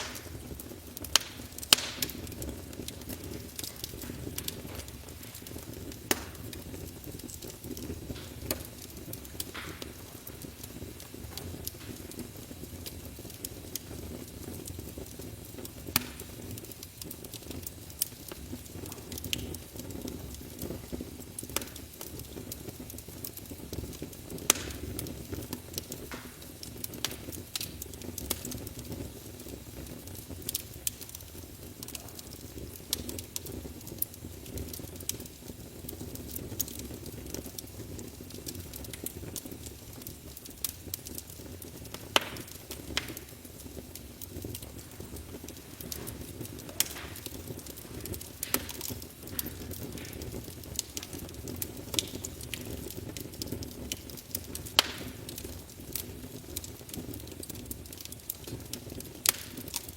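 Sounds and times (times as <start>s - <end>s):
fire burning in a fireplace: 0.0s - 59.9s
fire crackling and popping: 0.0s - 59.9s.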